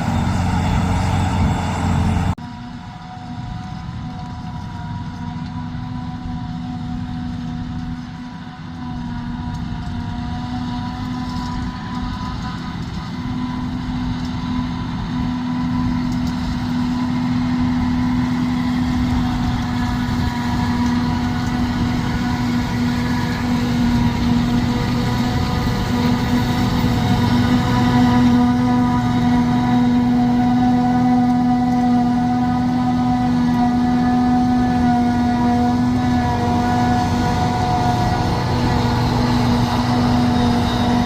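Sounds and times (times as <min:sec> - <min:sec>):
heavy farm machinery engine running: 0:00.0 - 0:41.0.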